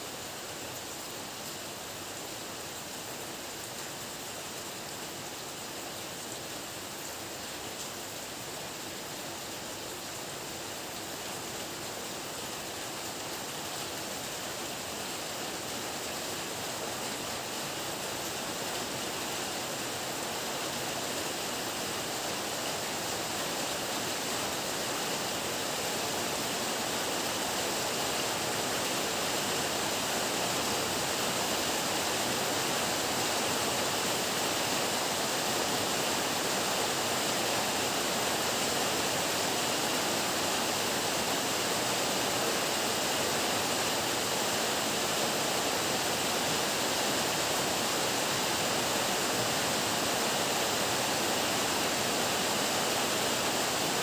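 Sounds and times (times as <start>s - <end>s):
heavy rain hissing: 9.4s - 54.0s.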